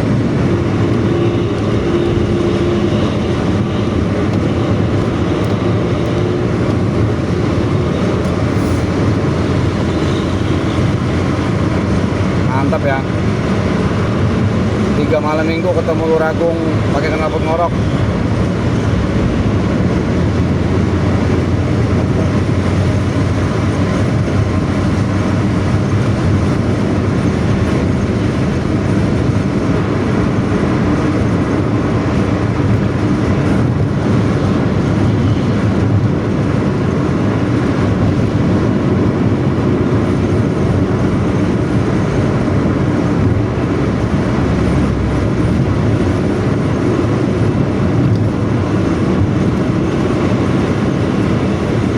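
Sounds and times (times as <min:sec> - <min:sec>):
bus engine growling rumble: 0:00.0 - 0:51.9.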